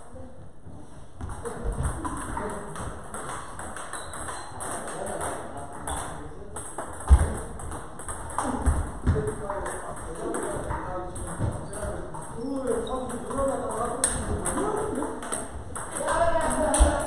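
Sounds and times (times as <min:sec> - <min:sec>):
table tennis balls tapping: 0:01.2 - 0:17.0.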